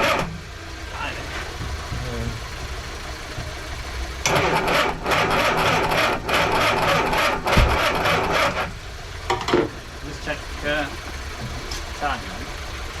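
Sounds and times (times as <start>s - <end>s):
car engine cranking on starter: 0.0s - 13.0s.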